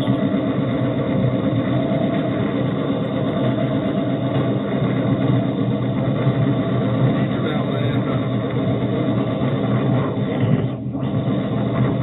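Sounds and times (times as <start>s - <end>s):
cart rolling on rails: 0.0s - 12.0s
engine running steadily: 0.0s - 12.0s.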